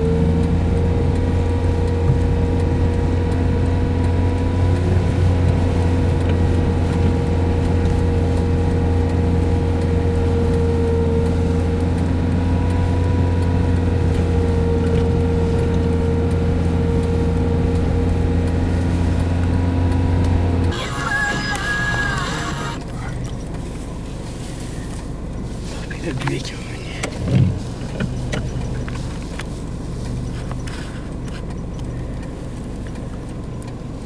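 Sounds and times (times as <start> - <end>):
car engine hum inside cabin: 0.0 - 34.0.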